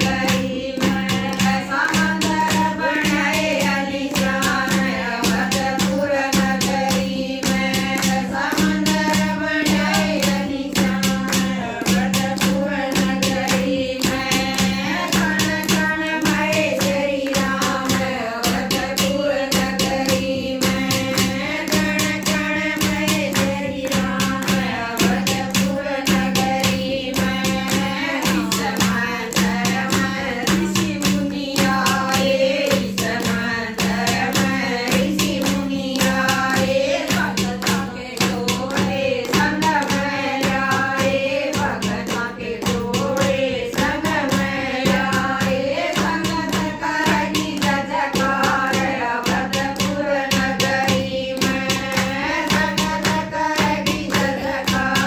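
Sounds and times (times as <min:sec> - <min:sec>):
hand claps: 0:00.0 - 0:55.0
women singing devotional song: 0:00.0 - 0:55.0.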